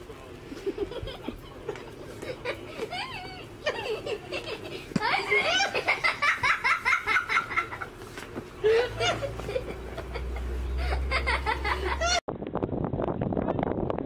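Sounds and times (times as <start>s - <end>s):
people giggling: 0.4s - 12.2s.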